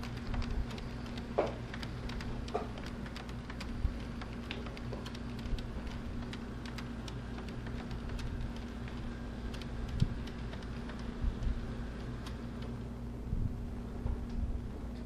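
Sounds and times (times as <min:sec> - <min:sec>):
model train wheels clicking: 0:00.0 - 0:12.8
steady low hum: 0:00.0 - 0:15.0.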